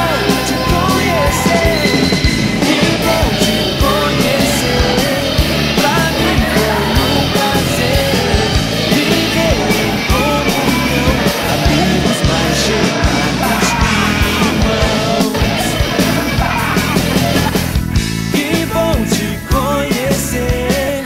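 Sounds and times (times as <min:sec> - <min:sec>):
person singing: 0:00.0 - 0:21.0
rock band music: 0:00.0 - 0:21.0.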